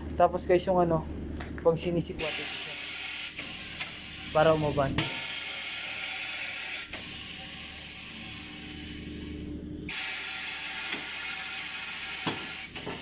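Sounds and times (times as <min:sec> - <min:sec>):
compressed air hissing: 0:02.2 - 0:13.0.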